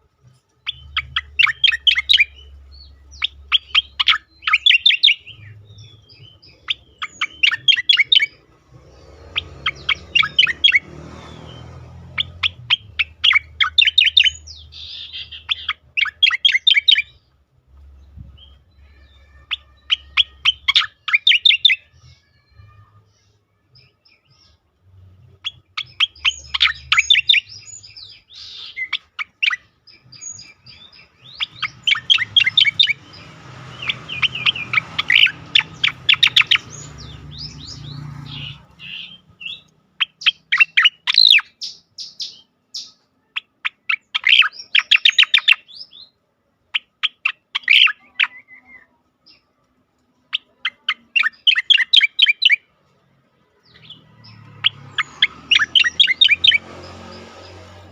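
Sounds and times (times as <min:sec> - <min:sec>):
bird singing chattering notes: 0:00.4 - 0:22.3, 0:23.8 - 0:49.6, 0:50.2 - 0:52.7, 0:53.6 - 0:57.9.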